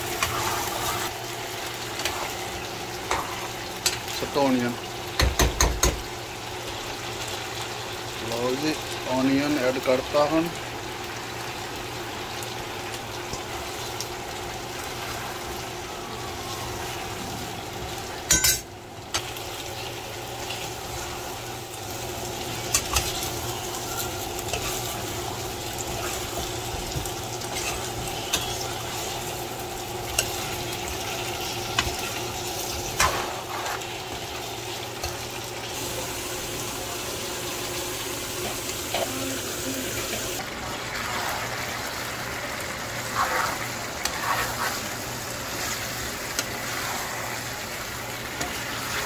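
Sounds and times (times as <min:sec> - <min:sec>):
chicken and onion sizzling in pan: 0:00.0 - 0:49.0.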